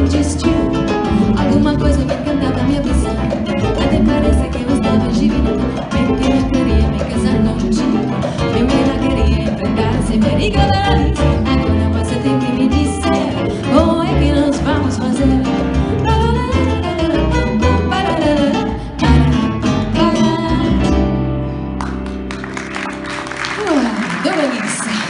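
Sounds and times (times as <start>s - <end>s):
latin jazz band playing: 0.0s - 24.4s.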